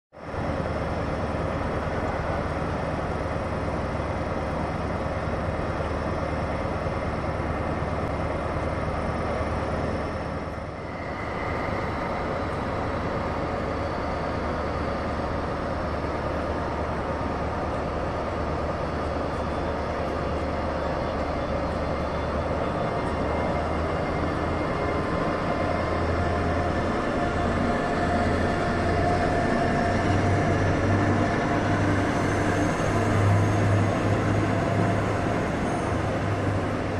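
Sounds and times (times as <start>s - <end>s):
diesel locomotive engine humming: 0.2s - 36.9s.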